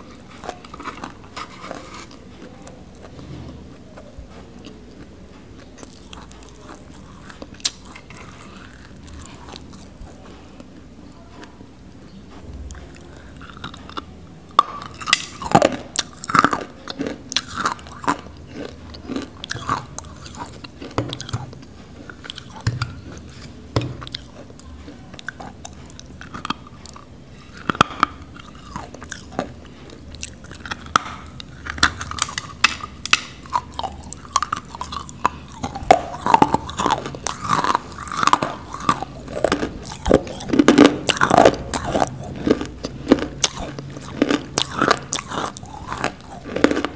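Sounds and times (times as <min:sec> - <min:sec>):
crunching and chewing: 0:00.0 - 0:46.9.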